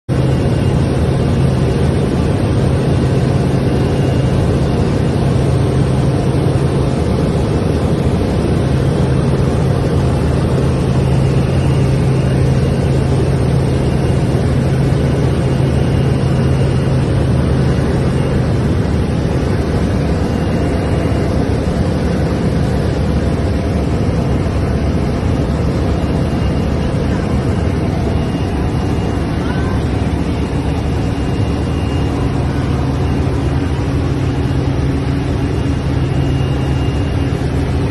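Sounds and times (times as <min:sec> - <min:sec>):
low steady hum: 0:00.1 - 0:37.9.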